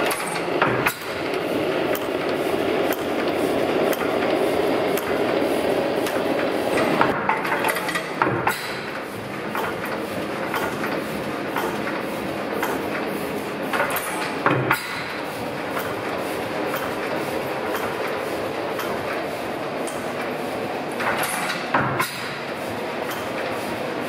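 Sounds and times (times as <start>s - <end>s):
stationary engine clattering: 0.0s - 24.0s.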